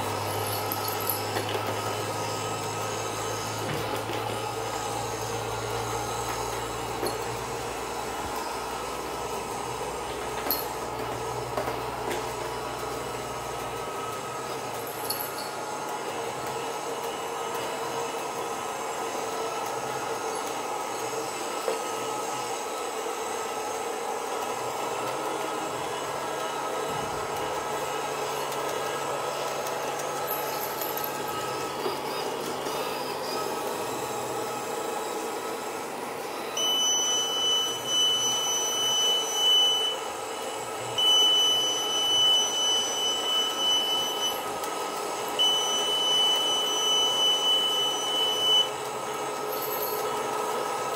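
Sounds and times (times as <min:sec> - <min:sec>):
robot floor cleaner whirring: 0:00.0 - 0:50.9.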